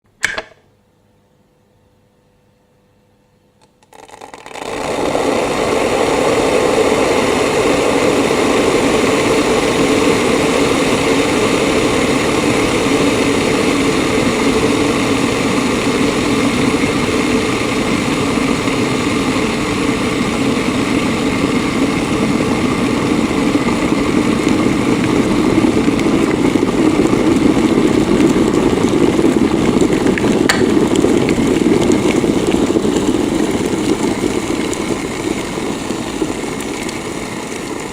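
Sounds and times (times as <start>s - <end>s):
kettle water rumbling: 3.8s - 37.9s.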